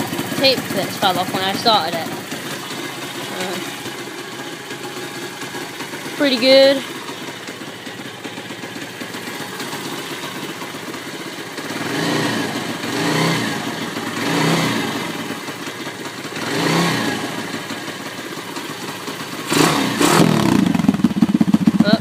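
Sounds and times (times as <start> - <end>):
motorbike engine idling and revving: 0.0 - 22.0.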